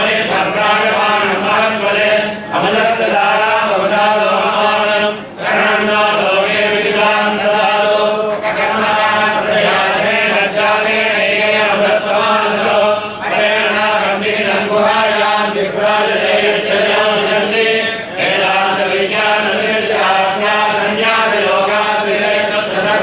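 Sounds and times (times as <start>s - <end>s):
voices chanting in unison: 0.0s - 23.0s.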